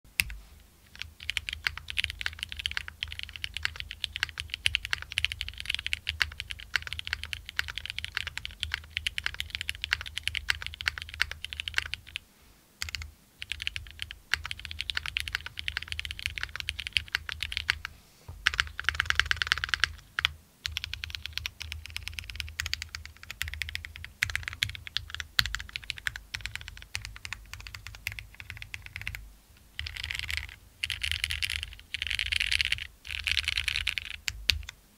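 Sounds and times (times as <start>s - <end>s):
mechanical keyboard typing: 0.2s - 12.2s, 12.8s - 29.2s, 29.8s - 34.8s.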